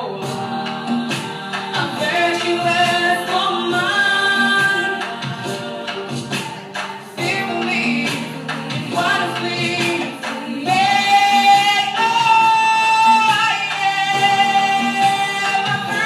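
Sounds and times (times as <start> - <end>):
musical accompaniment: 0.0 - 16.0
woman singing into microphone: 0.0 - 16.0.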